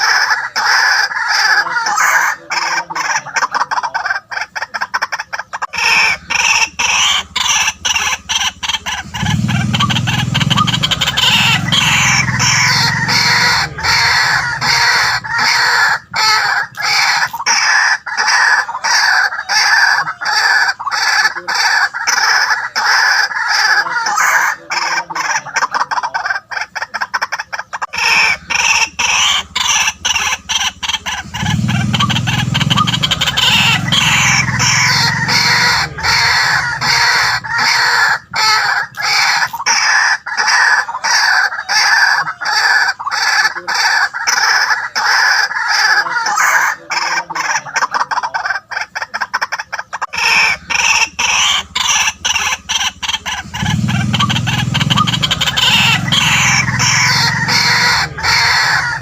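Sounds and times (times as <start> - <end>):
waterhen croaking call: 0.0 - 59.0.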